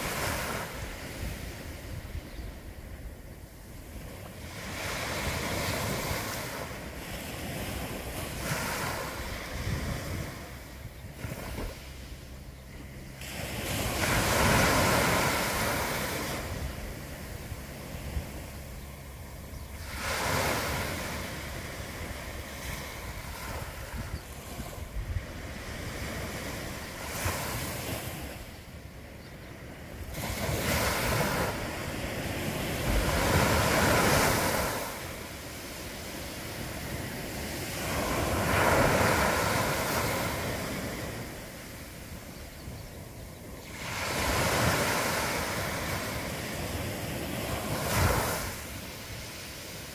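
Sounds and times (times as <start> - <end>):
waves breaking on sandy beach: 0.0 - 49.9.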